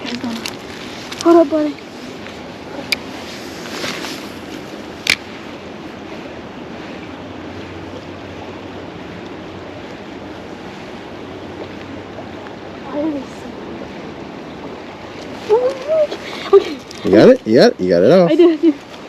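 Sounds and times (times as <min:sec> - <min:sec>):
steady outdoor rushing noise: 0:00.0 - 0:19.0.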